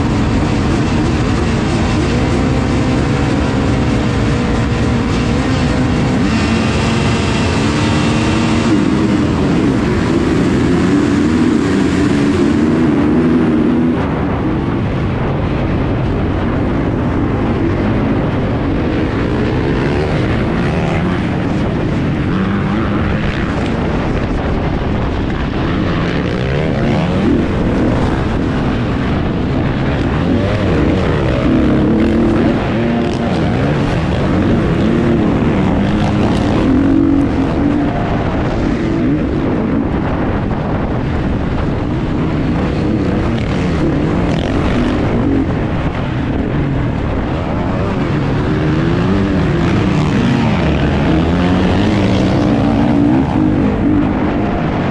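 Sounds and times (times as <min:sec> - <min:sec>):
motocross engine revving: 0:00.0 - 0:14.4, 0:17.2 - 0:24.5, 0:25.1 - 0:40.3, 0:41.9 - 0:46.3, 0:47.4 - 0:54.9.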